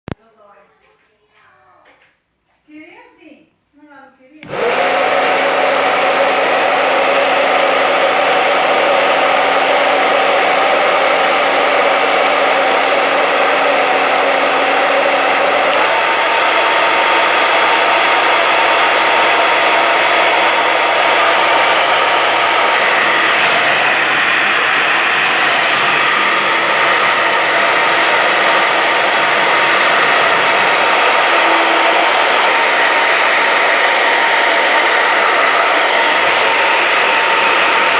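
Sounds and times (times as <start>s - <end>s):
hair dryer running: 4.4s - 37.9s.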